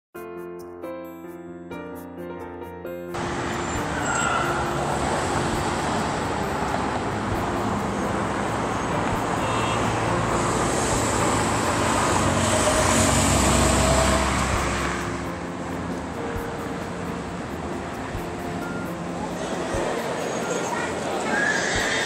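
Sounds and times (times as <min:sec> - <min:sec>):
road traffic passing: 0:03.1 - 0:22.0.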